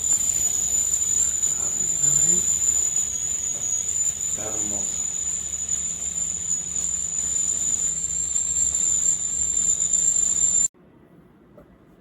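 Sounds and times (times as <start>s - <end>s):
kettle whistling: 0.0s - 10.7s
steam hiss: 0.0s - 10.7s.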